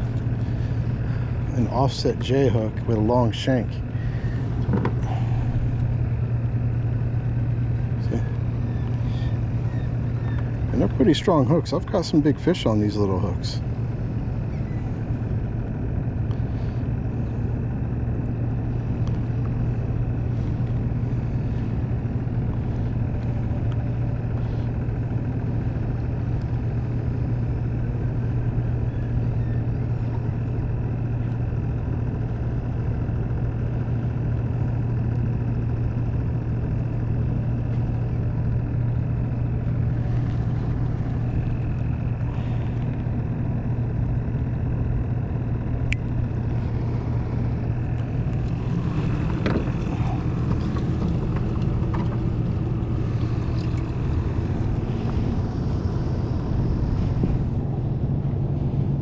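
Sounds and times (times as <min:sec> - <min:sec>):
motor hum with high whine: 0:00.0 - 0:59.0.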